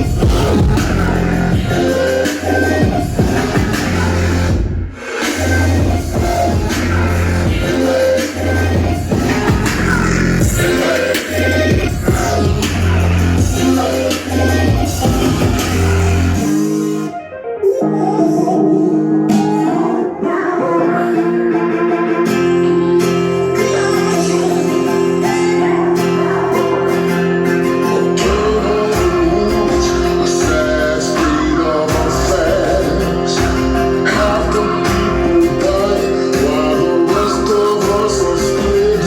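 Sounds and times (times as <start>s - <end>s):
heavy bass line: 0.0s - 17.1s, 17.9s - 39.0s
guitar music with singing: 0.0s - 39.0s.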